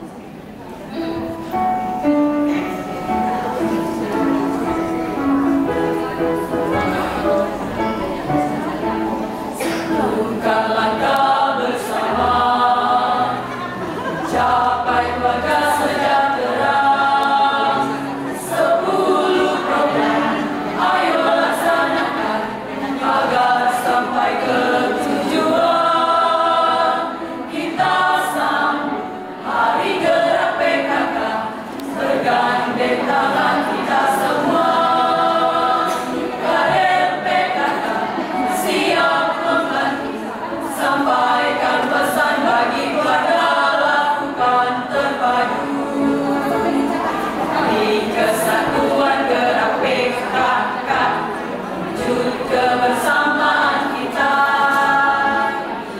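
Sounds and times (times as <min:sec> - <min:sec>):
choir singing a march: 0:09.6 - 0:55.9.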